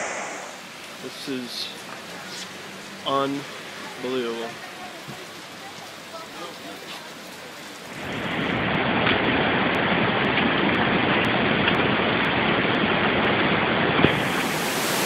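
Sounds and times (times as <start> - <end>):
floodwater rushing in a stream: 0.0 - 15.0.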